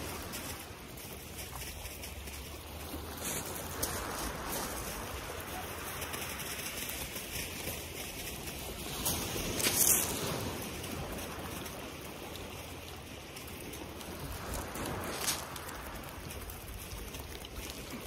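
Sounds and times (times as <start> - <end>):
waves washing onto shingle: 0.0 - 18.0.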